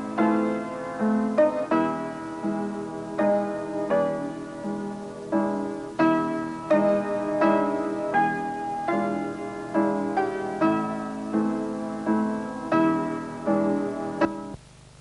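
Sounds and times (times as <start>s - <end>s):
slow solo piano melody: 0.0s - 14.6s.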